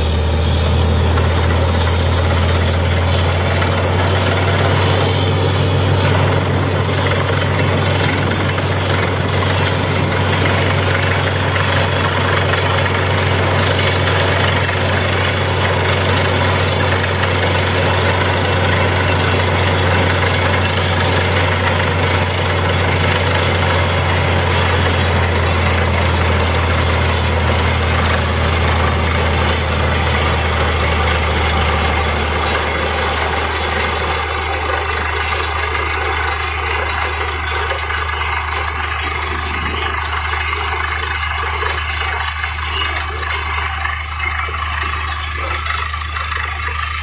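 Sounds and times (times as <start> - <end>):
drilling rig engine drone: 0.0 - 47.0.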